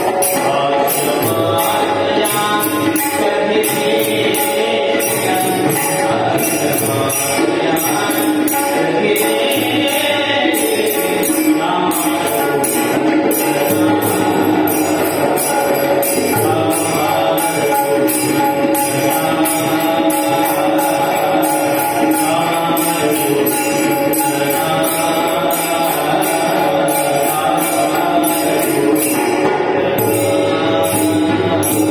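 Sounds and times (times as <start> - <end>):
devotional chant-like singing: 0.0 - 31.9
jingling percussion: 0.0 - 31.9.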